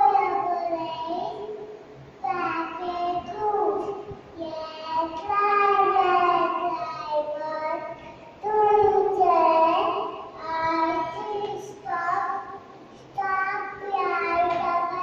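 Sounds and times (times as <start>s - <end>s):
child singing: 0.0s - 1.4s, 2.2s - 15.0s.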